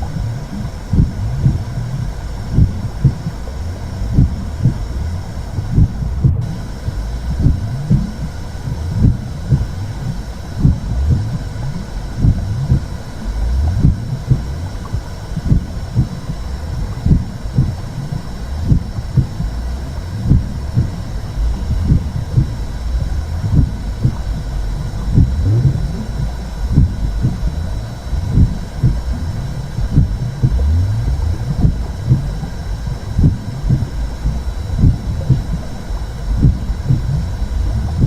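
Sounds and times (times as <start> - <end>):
deep whooshing rumble: 0.0 - 38.0
heartbeat-like pulses: 0.0 - 38.0.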